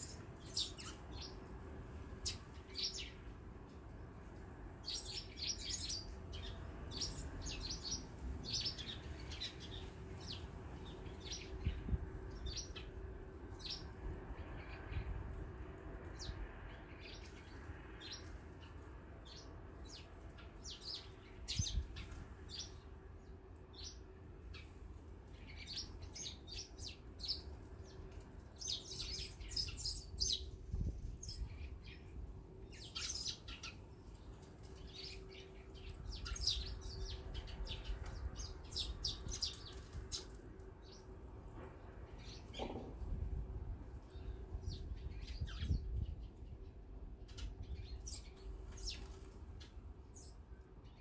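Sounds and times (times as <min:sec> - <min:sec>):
sparrows chirping: 0:00.0 - 0:41.2, 0:41.8 - 0:51.0.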